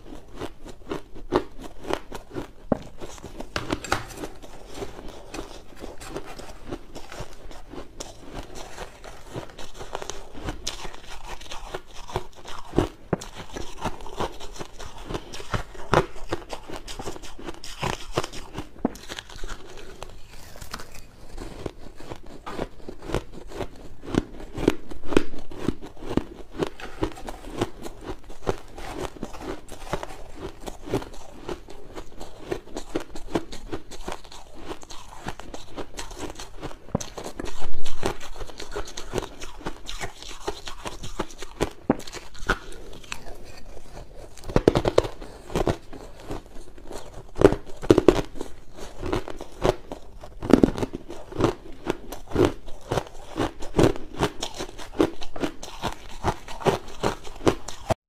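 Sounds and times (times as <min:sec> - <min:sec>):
crushed ice crunching in mouth: 0:00.0 - 0:58.0.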